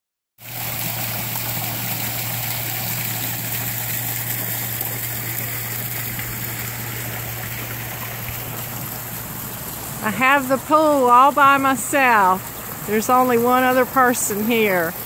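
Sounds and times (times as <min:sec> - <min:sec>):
low hum: 0:00.4 - 0:14.1
waterfall splashing: 0:00.4 - 0:15.0.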